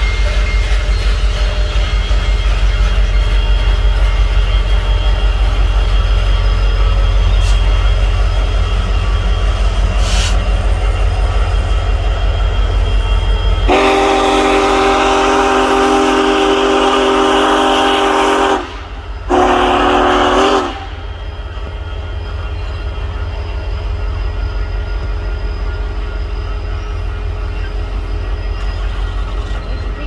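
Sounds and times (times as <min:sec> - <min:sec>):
steam locomotive chime whistle: 0:00.0 - 0:30.0.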